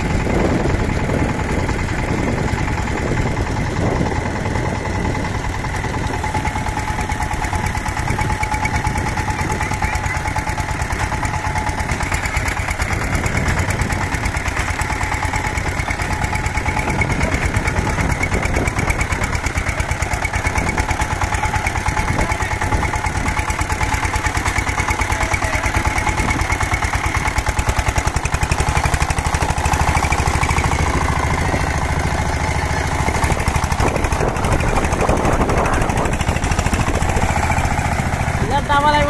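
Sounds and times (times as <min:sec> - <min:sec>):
diesel tiller engine running: 0:00.0 - 0:39.0.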